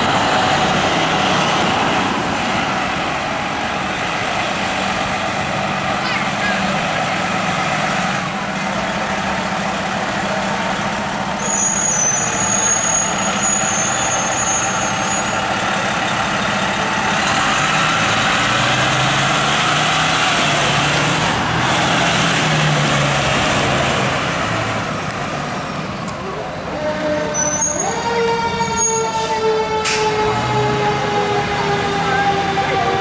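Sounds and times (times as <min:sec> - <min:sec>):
fire truck diesel engine running: 0:00.0 - 0:33.0
street noise: 0:00.0 - 0:33.0.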